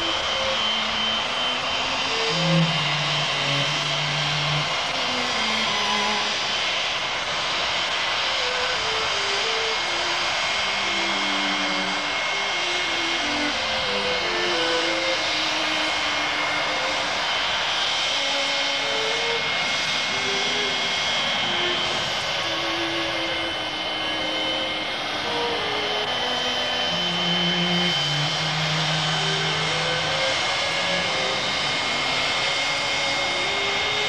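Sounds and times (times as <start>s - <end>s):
high-pitched engine whine: 0.0s - 34.0s
jet engines rumbling: 0.0s - 34.0s.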